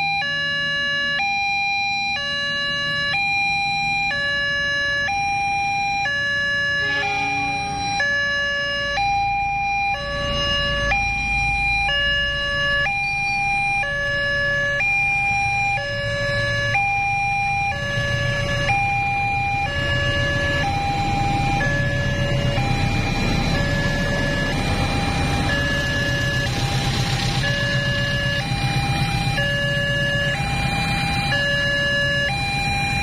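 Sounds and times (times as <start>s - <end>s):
level crossing warning alarm: 0.0s - 33.0s
diesel locomotive rumble: 2.3s - 33.0s.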